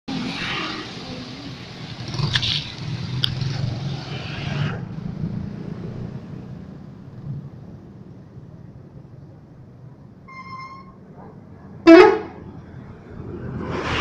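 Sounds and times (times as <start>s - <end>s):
hiss of road and air noise: 0.1s - 10.3s, 11.8s - 14.0s.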